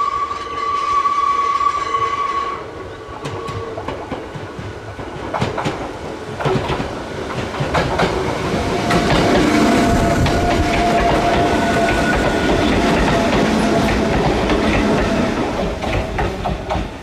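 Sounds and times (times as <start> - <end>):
electric train whine: 0.0 - 17.0
train wheels clacking on rail joints: 3.1 - 17.0.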